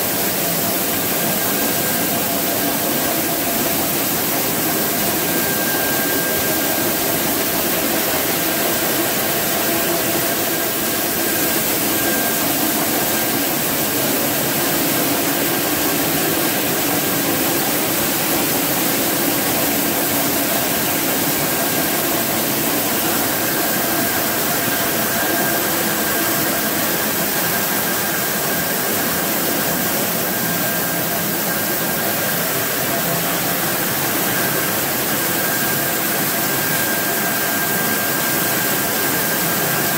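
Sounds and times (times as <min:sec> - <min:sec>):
thin steady whine: 0:00.0 - 0:39.9
mill machinery whooshing drone: 0:00.1 - 0:39.9.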